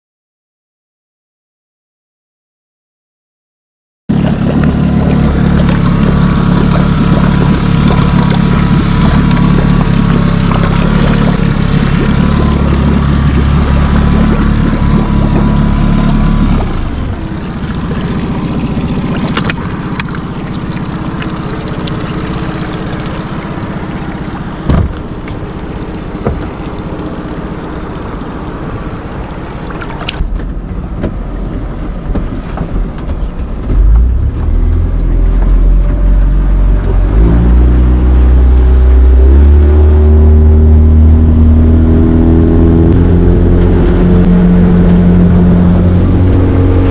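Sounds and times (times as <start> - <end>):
motorboat engine running: 4.1 - 46.9.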